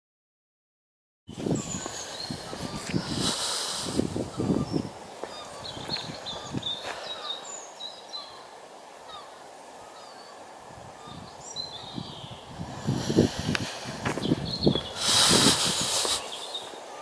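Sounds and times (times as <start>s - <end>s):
small birds chirping: 1.3s - 17.0s
faint steady background noise: 1.4s - 17.0s.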